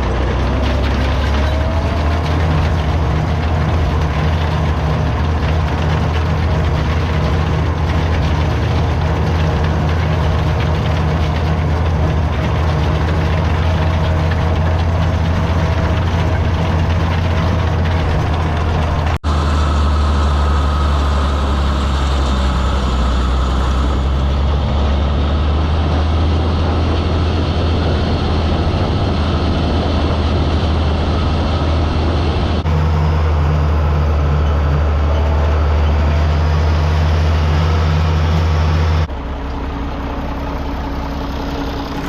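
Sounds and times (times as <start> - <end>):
driving noise: 0.0 - 42.0
vehicle engine droning: 0.0 - 42.0.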